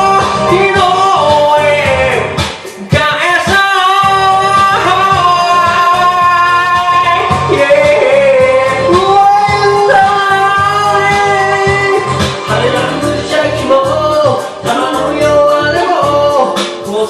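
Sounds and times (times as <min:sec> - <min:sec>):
instrumental accompaniment: 0:00.0 - 0:17.0
person singing long notes: 0:03.2 - 0:17.0.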